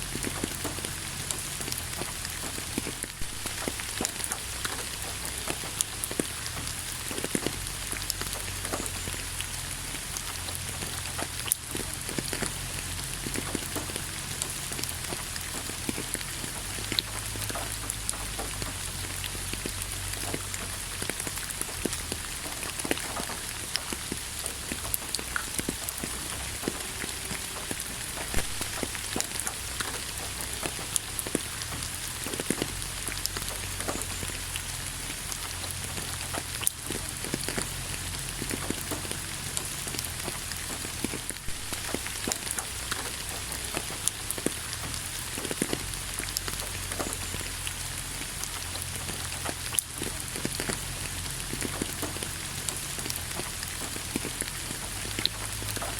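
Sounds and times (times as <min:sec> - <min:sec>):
steady rain with drop impacts: 0:00.0 - 0:55.9.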